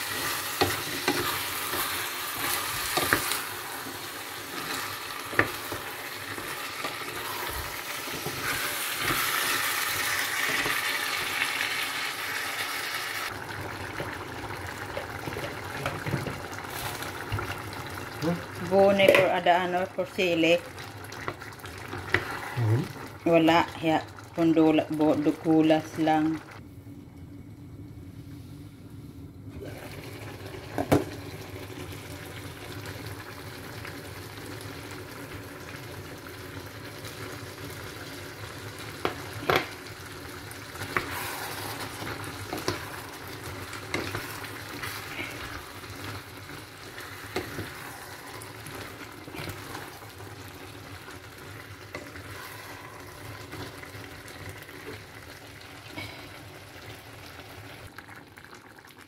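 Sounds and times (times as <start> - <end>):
food sizzling in a pot: 0.0 - 26.6, 29.6 - 59.0.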